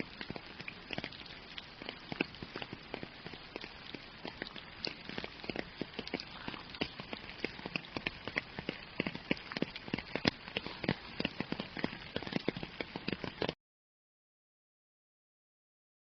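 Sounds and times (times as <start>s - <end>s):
rain drops pattering: 0.0s - 13.6s.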